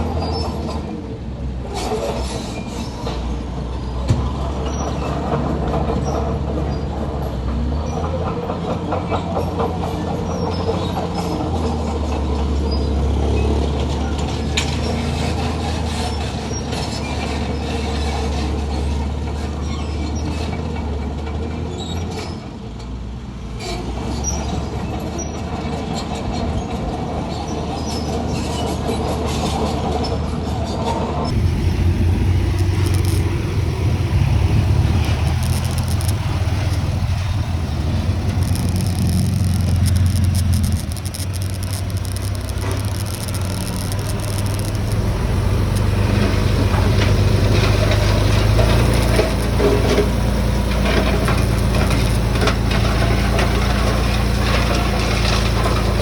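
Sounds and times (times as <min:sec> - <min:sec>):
heavy machinery diesel engines: 0:00.0 - 0:56.0
metallic clatter and squeaks: 0:01.7 - 0:22.6, 0:23.6 - 0:31.5, 0:32.6 - 0:56.0.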